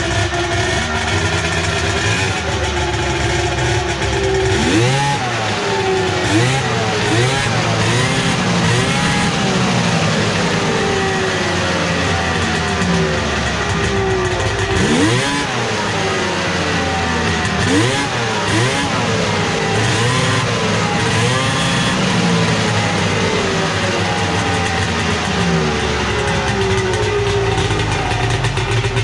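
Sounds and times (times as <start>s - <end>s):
snowmobile engine revving and idling: 0.0s - 29.0s.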